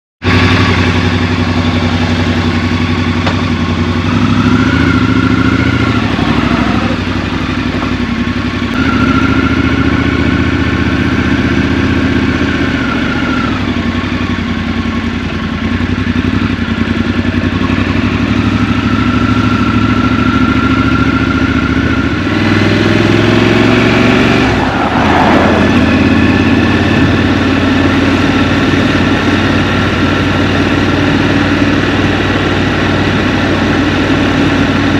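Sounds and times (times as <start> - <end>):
motorcycle engine accelerating: 0.2 - 34.9.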